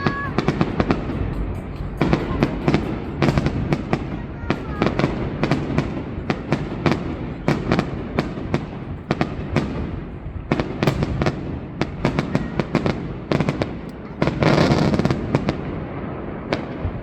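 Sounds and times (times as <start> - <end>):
continuous rumble: 0.0 - 17.0
fireworks bangs: 0.0 - 17.0.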